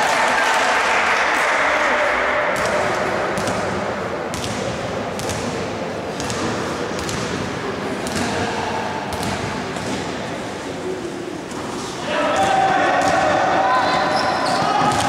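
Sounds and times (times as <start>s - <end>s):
echoing hubbub of people: 0.0s - 15.0s.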